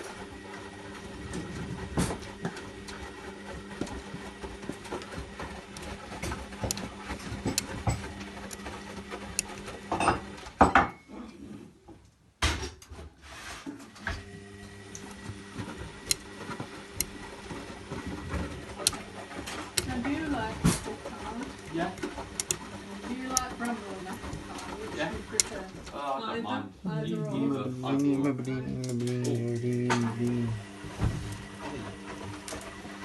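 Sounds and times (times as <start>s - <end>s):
washing machine motor hum: 0.0s - 12.0s, 12.8s - 33.0s.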